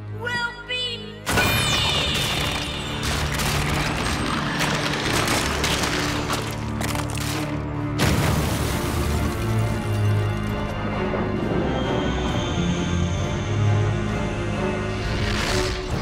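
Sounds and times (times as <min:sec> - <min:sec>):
dramatic music: 0:00.0 - 0:16.0.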